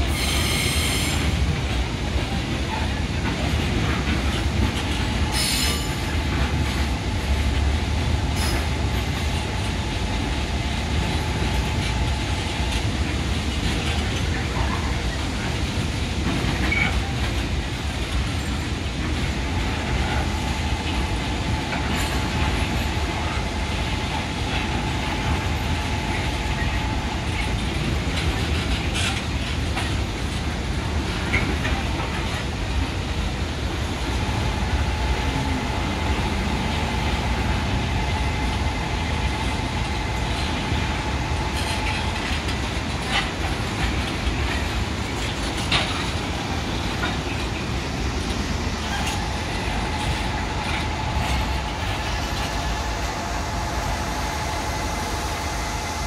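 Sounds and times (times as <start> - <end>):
train wheels rumbling on rail: 0.0 - 56.0
wheels clacking over rail joints: 0.1 - 33.0, 33.7 - 56.0.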